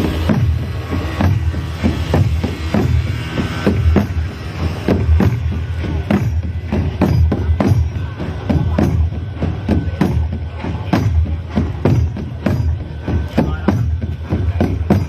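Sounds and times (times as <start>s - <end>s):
barrel drums beaten with sticks: 0.0s - 15.0s.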